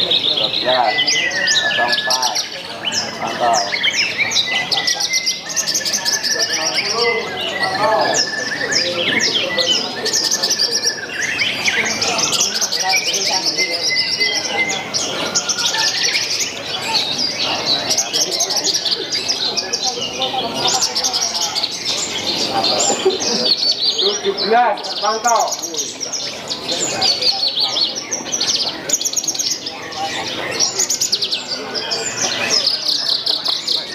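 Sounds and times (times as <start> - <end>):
bird singing rapid chirps and trills: 0.0 - 33.9.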